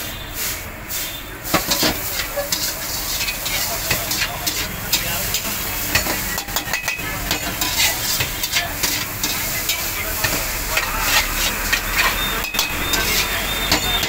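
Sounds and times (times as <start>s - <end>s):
noodles sizzling: 0.0s - 14.0s
metal spatula scraping a wok: 0.4s - 14.0s.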